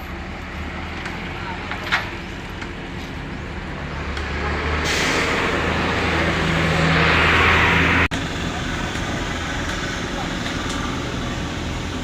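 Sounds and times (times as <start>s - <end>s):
heavy truck engine hum: 0.0s - 12.0s.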